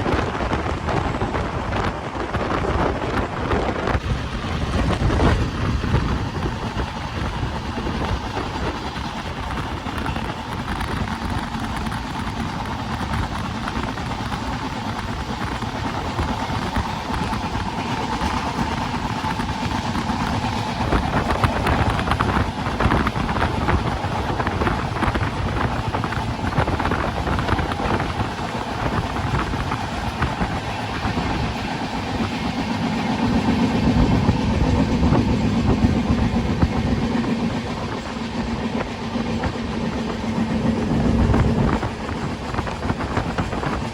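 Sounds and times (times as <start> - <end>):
low engine tone: 0.0 - 43.9
train rumbling and rattling: 0.0 - 43.9.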